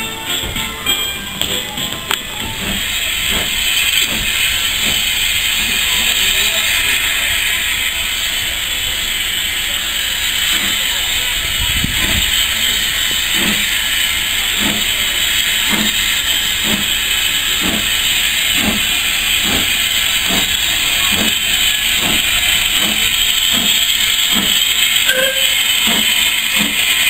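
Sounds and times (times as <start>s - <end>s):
steam hissing: 0.1s - 27.0s
steam locomotive exhaust chuffs: 0.1s - 27.0s.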